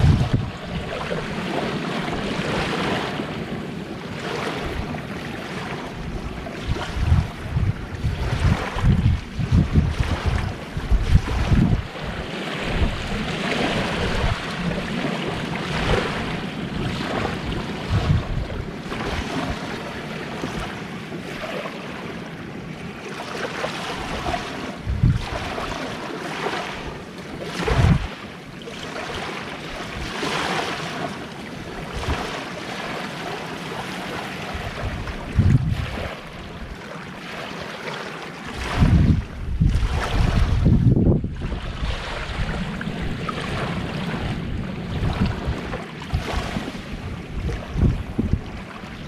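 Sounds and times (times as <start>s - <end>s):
wind buffeting microphone: 0.0s - 23.0s, 23.8s - 28.3s, 31.5s - 36.8s, 38.4s - 49.0s
small waves washing onto shore: 0.0s - 49.0s.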